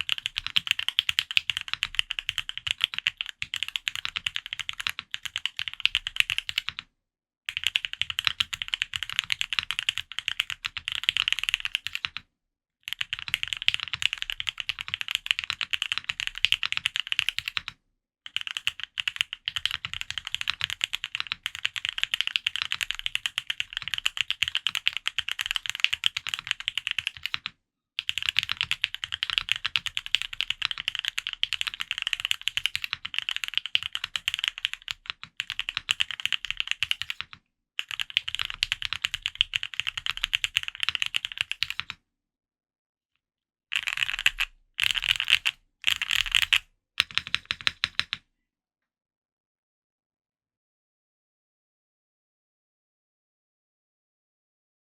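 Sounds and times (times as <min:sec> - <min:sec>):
mechanical keyboard typing: 0:00.0 - 0:06.8, 0:07.5 - 0:12.2, 0:12.9 - 0:42.0, 0:43.8 - 0:48.2.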